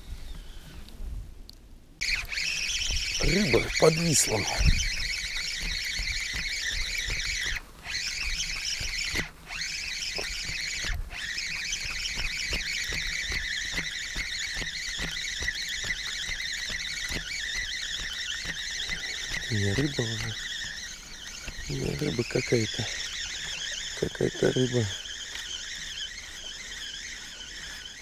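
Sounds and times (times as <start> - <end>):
fishing reel whirring: 2.0 - 28.0.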